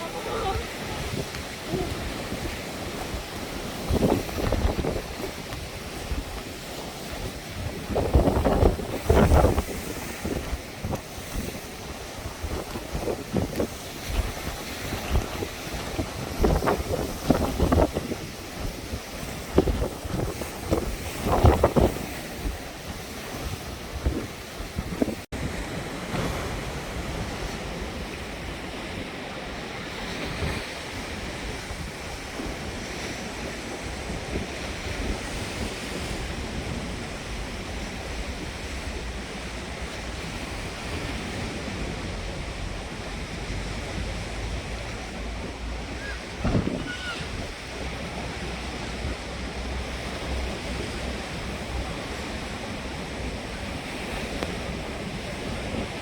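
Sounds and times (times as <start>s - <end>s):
wind blowing on microphone: 0.0s - 56.0s.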